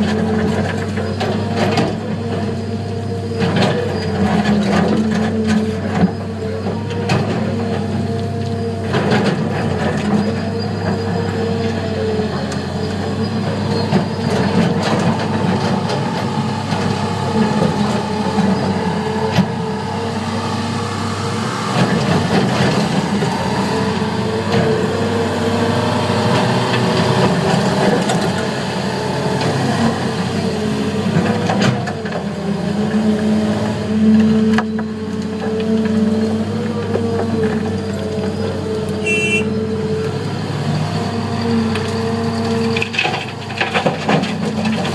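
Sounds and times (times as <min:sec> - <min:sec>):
diesel engines running: 0:00.0 - 0:44.9.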